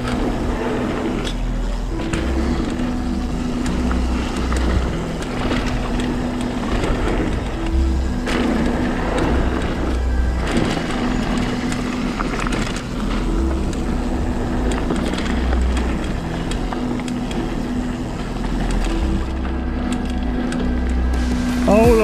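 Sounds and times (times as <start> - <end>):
tyres rumbling on dirt: 0.0 - 22.0.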